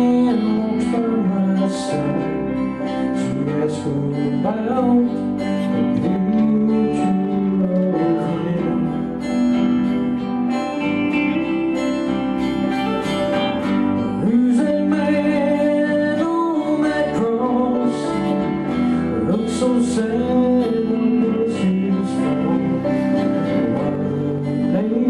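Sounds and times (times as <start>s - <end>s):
person singing: 0.0s - 25.0s
strummed guitar: 0.0s - 25.0s.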